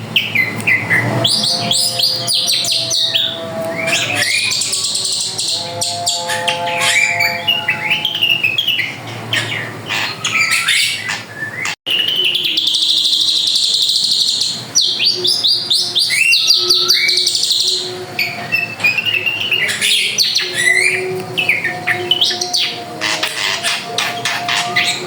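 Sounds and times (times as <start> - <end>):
bird singing chirps and trills: 0.0 - 25.0.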